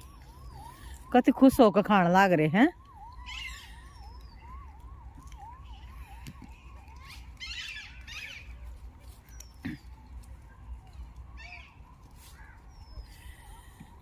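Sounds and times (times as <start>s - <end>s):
electronic siren yelping: 0.0s - 14.0s.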